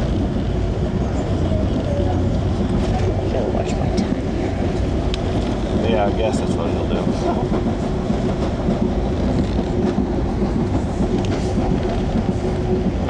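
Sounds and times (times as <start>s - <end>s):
constant low hum: 0.0s - 13.0s
train wheels rumbling on rail: 0.0s - 13.0s.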